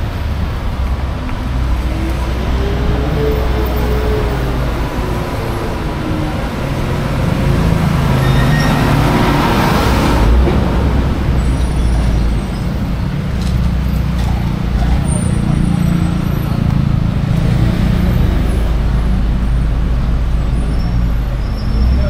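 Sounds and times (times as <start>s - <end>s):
traffic engine rumble: 0.0s - 22.0s
vehicle passing: 0.0s - 22.0s.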